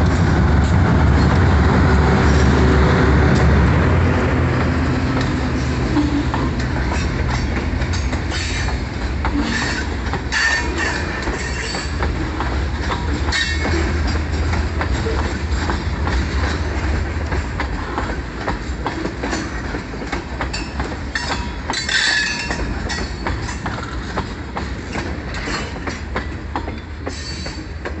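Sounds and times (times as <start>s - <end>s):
low train rumble: 0.0s - 28.0s
train wheels clicking over rail joints: 0.0s - 28.0s.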